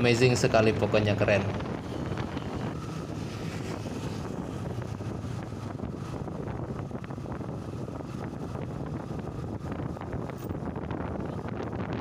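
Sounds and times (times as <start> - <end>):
road noise: 0.0 - 12.0
wind rumble on microphone: 0.0 - 12.0
motorcycle engine: 0.6 - 12.0.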